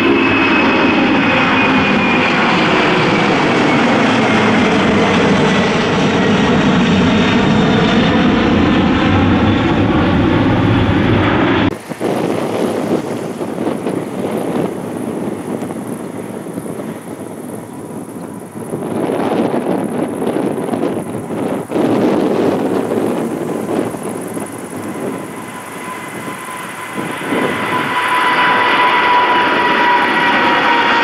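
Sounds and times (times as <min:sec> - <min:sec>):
airliner engine roar and whine: 0:00.0 - 0:31.0
wind on microphone: 0:00.0 - 0:31.0.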